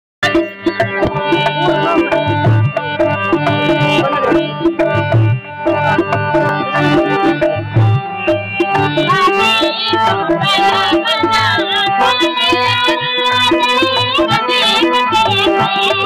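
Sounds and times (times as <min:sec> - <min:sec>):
hand drum rhythm: 0:00.2 - 0:16.0
held melodic tones: 0:00.2 - 0:16.0
wavering melodic line: 0:00.2 - 0:16.0.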